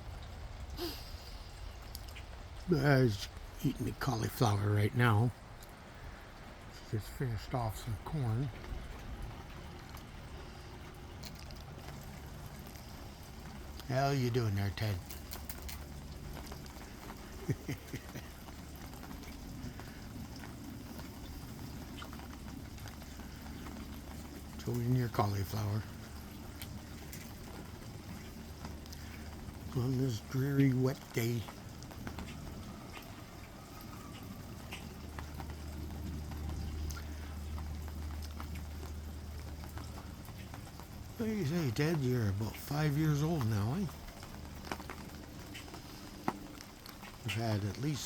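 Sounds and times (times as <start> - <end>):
low hum: 0.0 - 48.0
rain pattering and dripping: 0.0 - 48.0.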